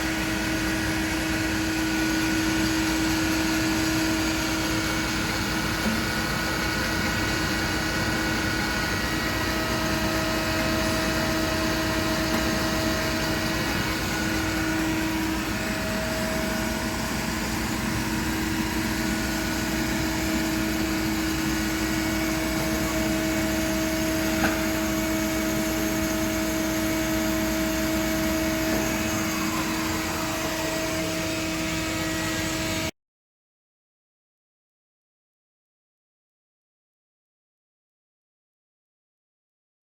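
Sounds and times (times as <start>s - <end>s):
machine hum with steady tones: 0.0s - 32.9s.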